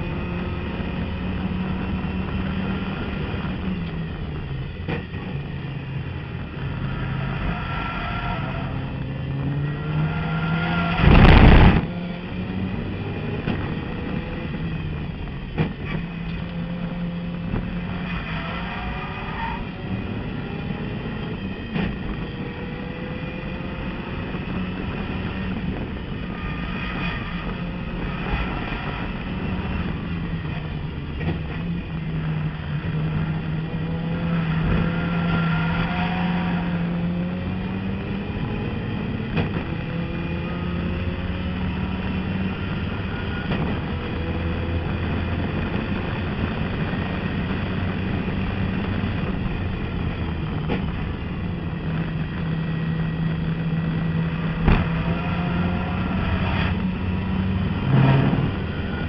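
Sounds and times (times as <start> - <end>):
racing car engine under load: 0.0 - 59.0.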